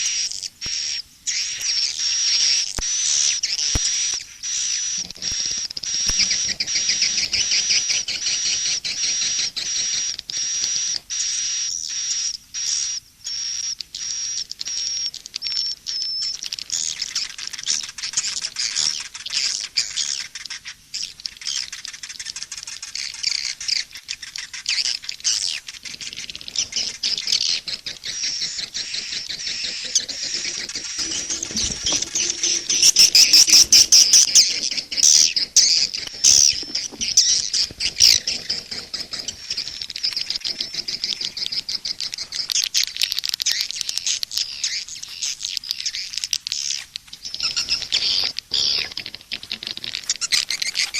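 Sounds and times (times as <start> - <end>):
swiftlet twittering chirps: 0.8 - 42.9.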